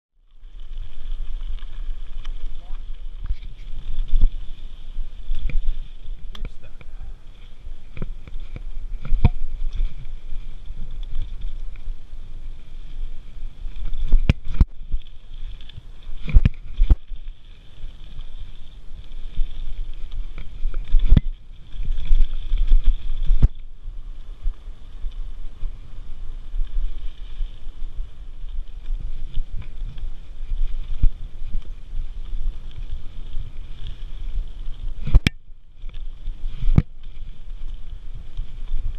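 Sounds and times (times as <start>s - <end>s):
bike tyre noise on dirt: 0.1s - 38.9s
wind on microphone: 0.4s - 38.9s.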